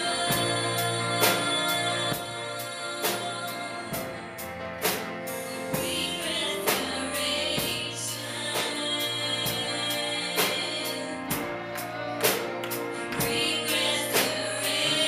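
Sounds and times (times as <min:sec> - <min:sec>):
gospel song: 0:00.0 - 0:15.0
steady drum beat: 0:00.0 - 0:15.0
sustained chords: 0:00.0 - 0:15.0.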